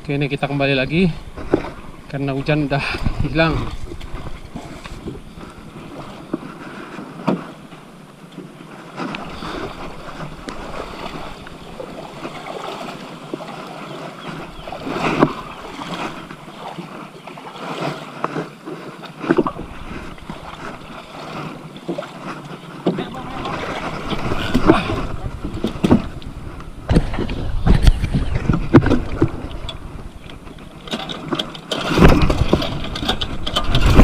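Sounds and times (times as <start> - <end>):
water lapping around boat: 0.0 - 34.0
boat knocks: 1.3 - 34.0.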